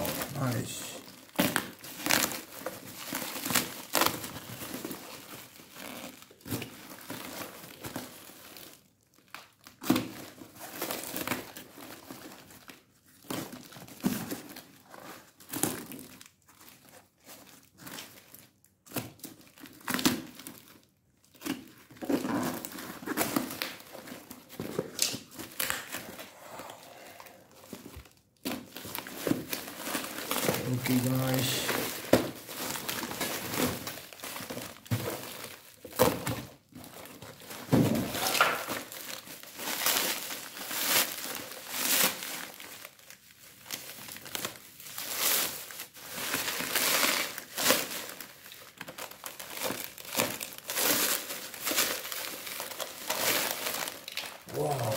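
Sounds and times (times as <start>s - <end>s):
bubble wrap crinkling: 0.0s - 54.9s
cardboard parcel tearing: 0.0s - 54.9s.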